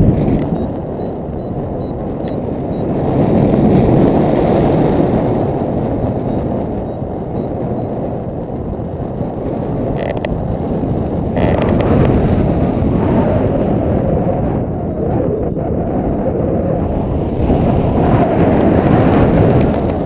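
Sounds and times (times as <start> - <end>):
muffled wind rumble: 0.0 - 20.0.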